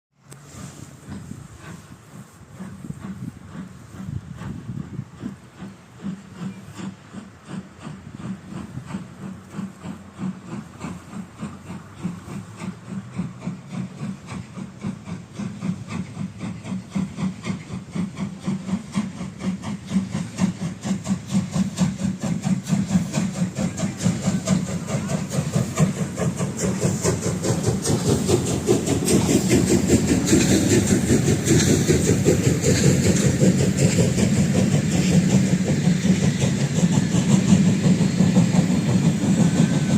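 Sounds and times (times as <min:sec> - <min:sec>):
steam locomotive exhaust beating: 0:00.2 - 0:39.9
steam hissing: 0:00.3 - 0:39.9.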